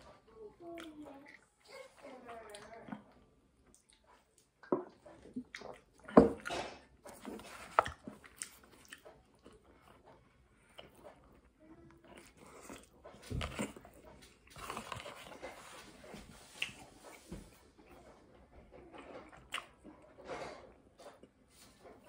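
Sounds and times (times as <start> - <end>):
person chewing food: 0.6 - 22.0.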